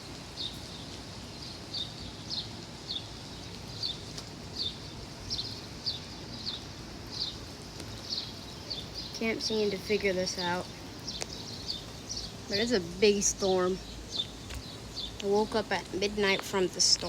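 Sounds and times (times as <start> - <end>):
bird chirping: 0.4 - 17.0.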